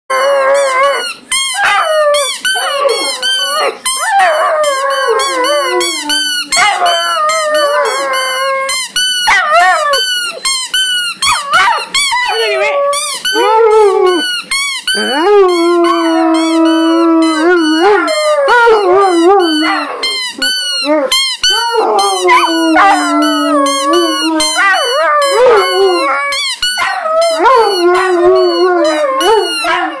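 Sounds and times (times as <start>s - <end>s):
puppies howling and yelping: 0.1s - 10.4s, 11.2s - 14.3s, 14.9s - 30.0s.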